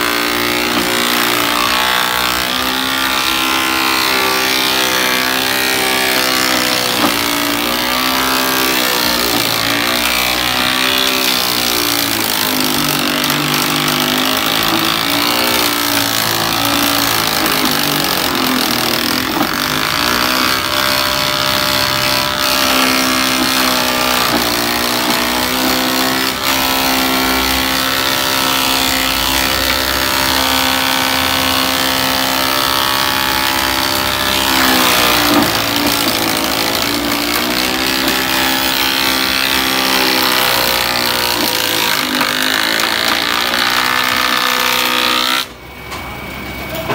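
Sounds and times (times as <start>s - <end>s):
thickness planer running: 0.0s - 46.9s.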